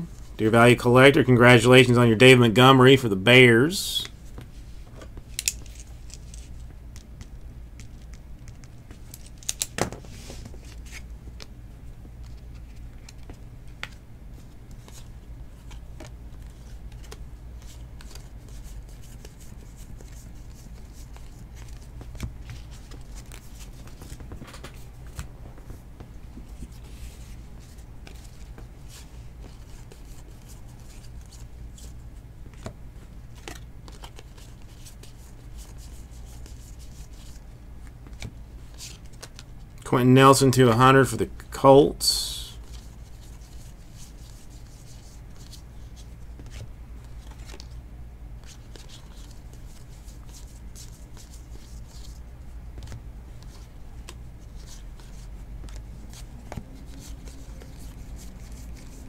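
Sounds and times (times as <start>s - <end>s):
cards and paper rustling: 2.6s - 11.5s, 12.2s - 39.6s, 42.3s - 47.8s, 48.4s - 59.0s.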